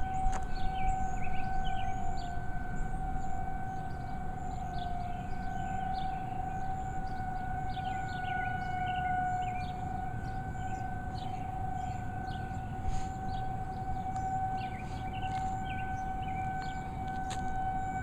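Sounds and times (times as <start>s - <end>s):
tornado siren steady tone: 0.0s - 18.0s.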